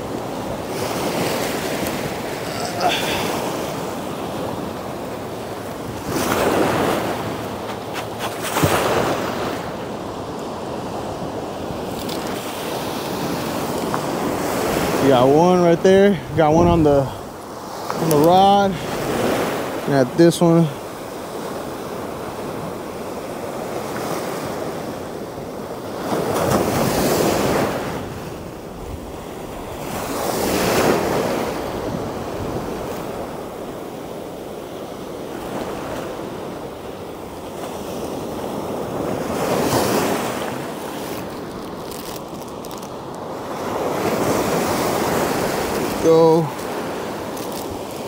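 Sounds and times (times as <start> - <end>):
ocean surf washing over sand: 0.0 - 48.0.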